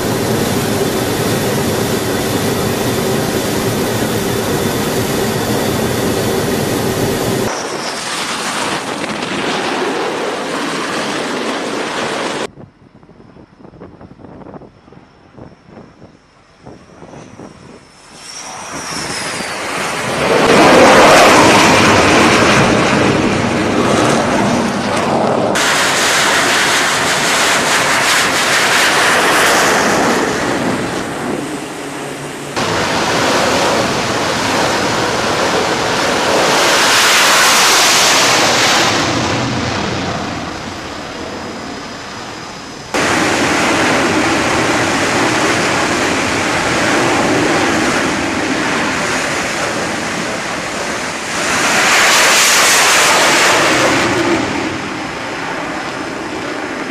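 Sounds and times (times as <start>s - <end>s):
fighter jet engines roaring: 0.0s - 56.9s.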